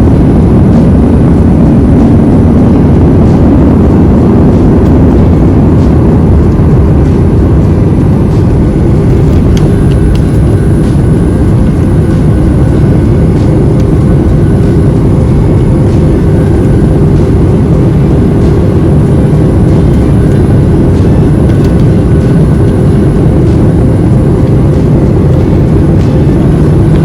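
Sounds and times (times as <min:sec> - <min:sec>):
faint steady hum: 0:00.0 - 0:27.0
jet engines and rushing air: 0:00.0 - 0:27.0.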